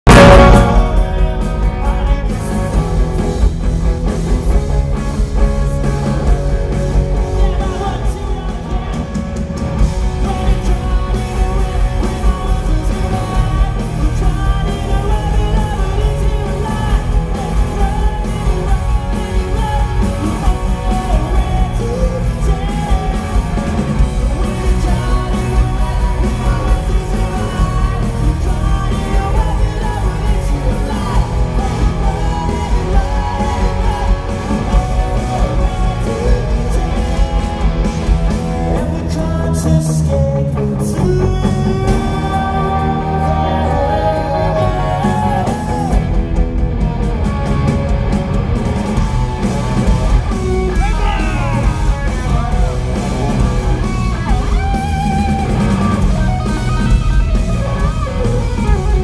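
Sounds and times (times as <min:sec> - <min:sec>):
drum kit: 0:00.0 - 0:59.0
electric guitars: 0:00.0 - 0:59.0
person singing: 0:05.3 - 0:46.2, 0:49.6 - 0:57.0.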